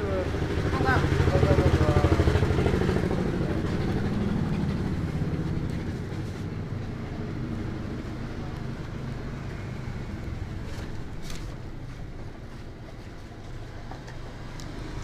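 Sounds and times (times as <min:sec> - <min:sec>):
engine pulsing drone: 0:00.0 - 0:15.0.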